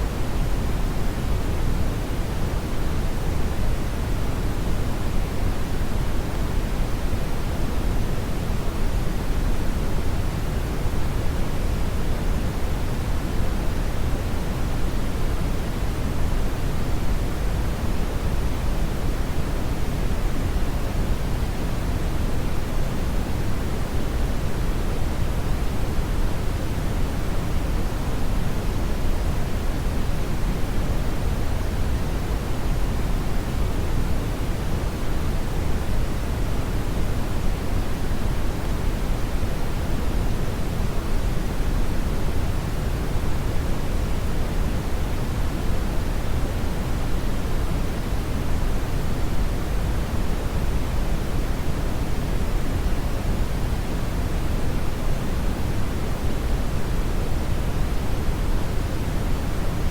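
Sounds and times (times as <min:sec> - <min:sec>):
brown noise rushing hiss: 0:00.0 - 0:59.9.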